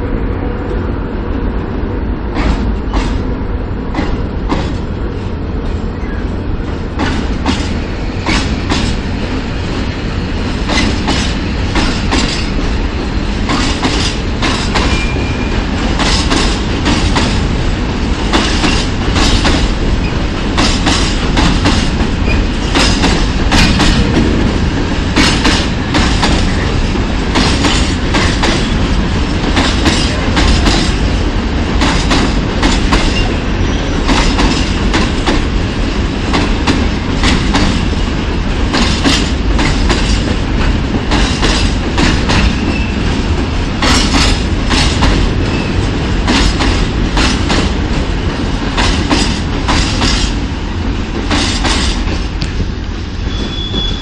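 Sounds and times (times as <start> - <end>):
low train rumble: 0.0 - 54.0
train wheels clattering over rail joints: 2.3 - 5.0, 6.6 - 9.3, 10.4 - 52.7.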